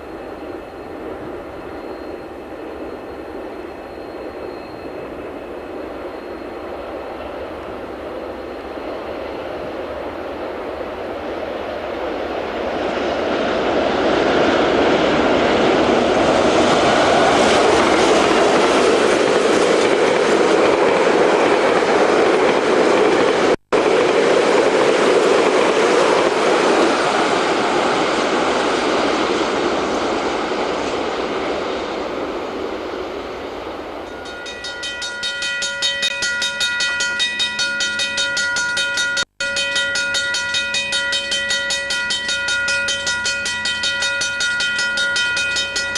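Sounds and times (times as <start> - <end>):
train passing on rails: 0.0 - 45.9.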